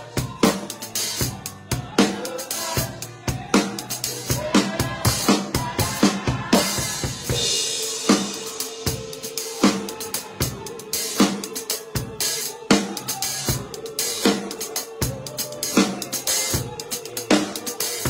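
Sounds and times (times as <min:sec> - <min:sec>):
drum kit groove: 0:00.0 - 0:18.0.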